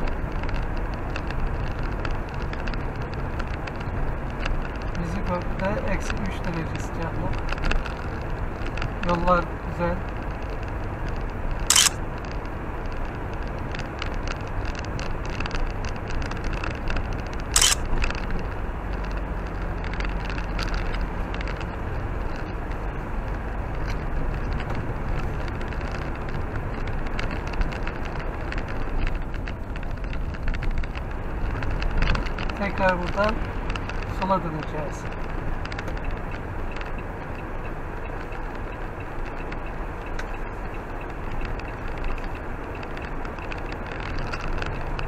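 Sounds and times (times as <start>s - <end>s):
car engine and tyre noise: 0.0s - 45.0s
small crackles: 0.0s - 45.0s.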